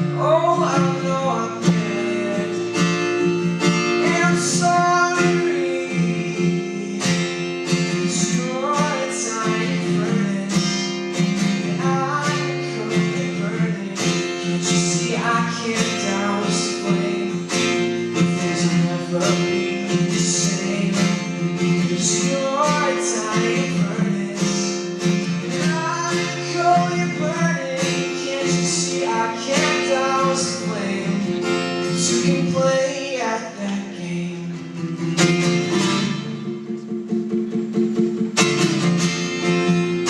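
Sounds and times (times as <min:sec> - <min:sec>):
person singing: 0:00.0 - 0:34.8
acoustic guitar strumming: 0:00.0 - 0:40.0.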